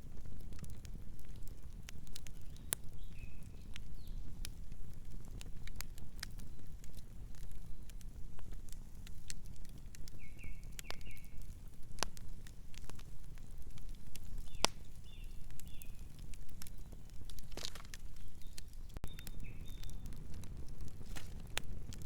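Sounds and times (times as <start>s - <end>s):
campfire low rumble: 0.0s - 22.0s
wood crackles and pops: 0.0s - 22.0s.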